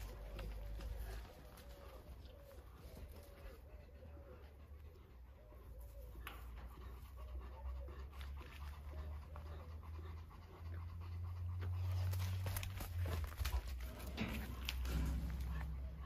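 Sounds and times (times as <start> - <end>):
panther panting: 0.0 - 14.1.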